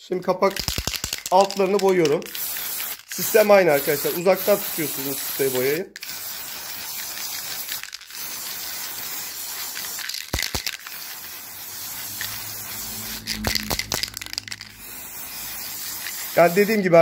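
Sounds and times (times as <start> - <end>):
spray paint can hissing: 0.5 - 17.0.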